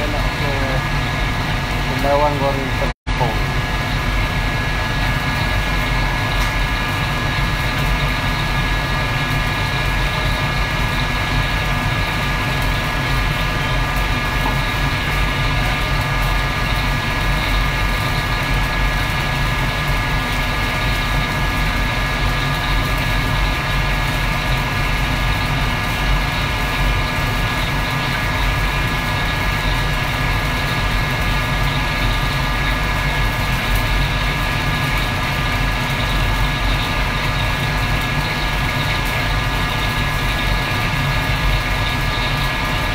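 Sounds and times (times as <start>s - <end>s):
extractor hood fan: 0.0s - 42.9s
gas wok burner roaring: 0.0s - 42.9s.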